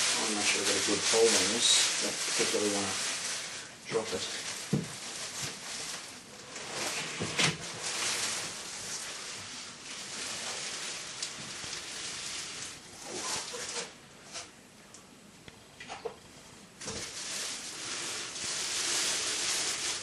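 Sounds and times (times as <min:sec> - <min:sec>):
plastic packaging rustling: 0:00.0 - 0:14.5, 0:16.8 - 0:20.0.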